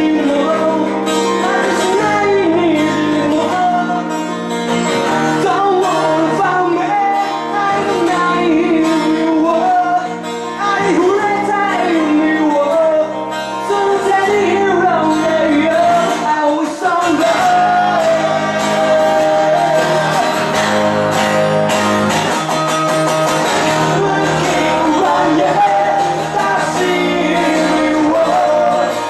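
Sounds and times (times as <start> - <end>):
men singing: 0.0 - 4.2, 5.3 - 21.1, 23.1 - 29.0
bass guitar: 0.0 - 29.0
strummed acoustic guitars: 0.0 - 29.0.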